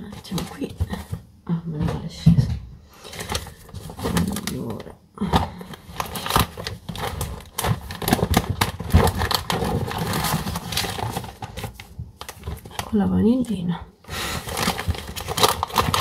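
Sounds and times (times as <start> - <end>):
boxes and packets rustling: 0.0 - 16.0.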